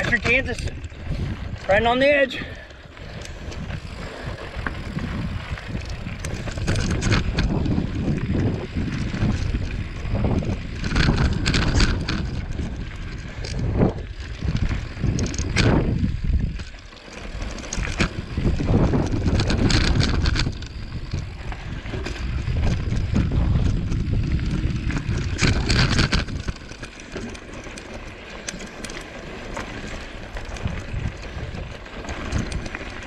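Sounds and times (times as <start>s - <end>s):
bike rattling and knocking: 0.0s - 33.0s
tyres rumbling on dirt: 0.0s - 33.0s
wind buffeting microphone: 0.0s - 33.0s.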